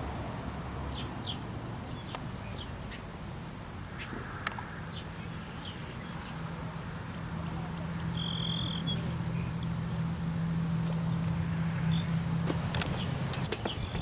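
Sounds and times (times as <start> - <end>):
small birds chirping: 0.0 - 3.1, 4.9 - 14.0.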